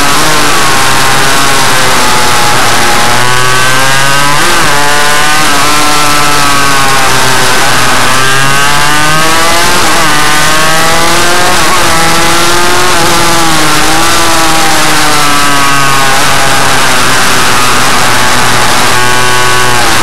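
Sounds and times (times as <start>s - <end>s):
two-stroke engine running hard: 0.0s - 20.0s.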